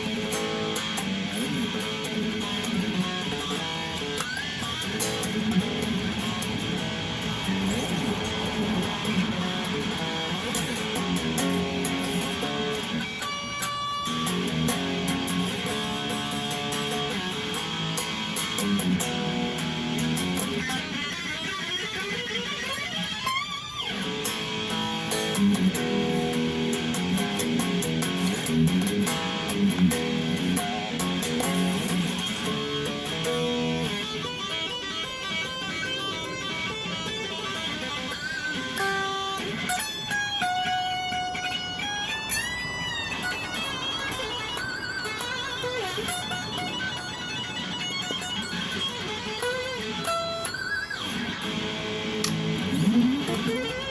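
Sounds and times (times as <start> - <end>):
electric guitar strumming and picking: 0.0 - 53.9.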